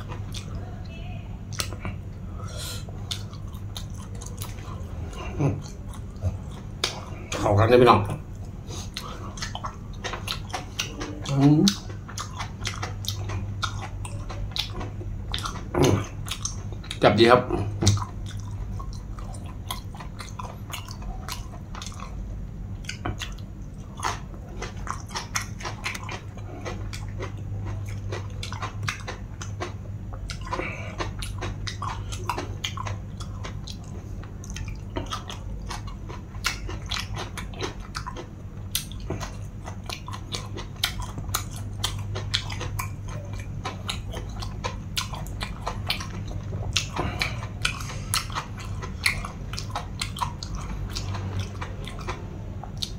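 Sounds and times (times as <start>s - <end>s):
chewing crisp vegetables: 0.0s - 52.9s.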